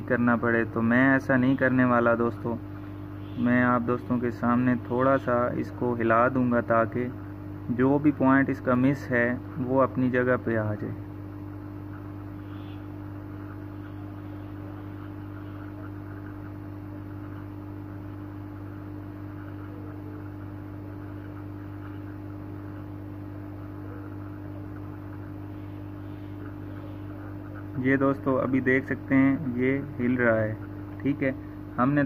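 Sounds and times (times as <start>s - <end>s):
hot air gun fan hum: 0.0s - 32.0s.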